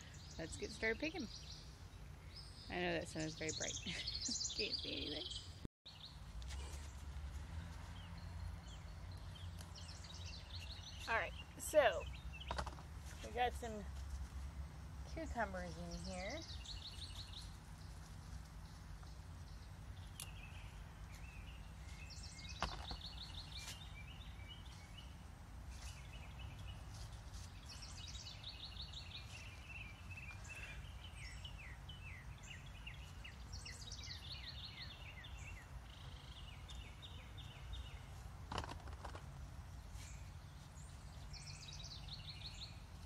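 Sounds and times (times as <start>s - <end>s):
low outdoor rumble: 0.0s - 43.0s
songbird singing: 0.0s - 43.0s.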